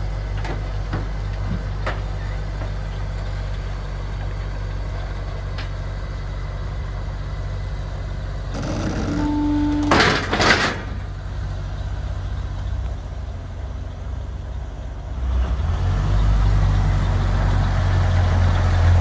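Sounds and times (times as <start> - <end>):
engine idling: 0.0 - 15.4.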